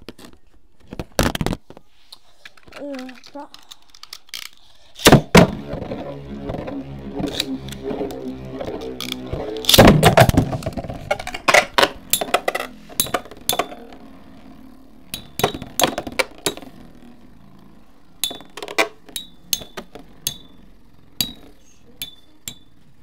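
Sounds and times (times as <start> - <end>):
spinning tops clattering: 3.0 - 22.8
spinning tops clinking: 3.5 - 22.8.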